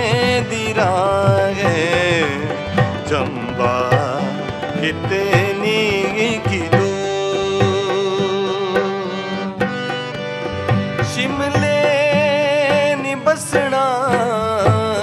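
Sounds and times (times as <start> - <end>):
harmonium and keyboard melody: 0.0 - 15.0
tabla drum beat: 0.0 - 15.0.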